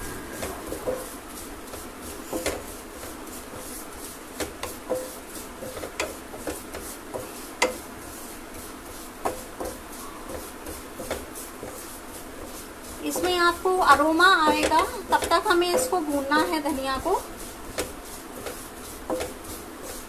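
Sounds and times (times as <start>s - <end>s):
spatula scraping seeds in metal pan: 0.0s - 20.0s.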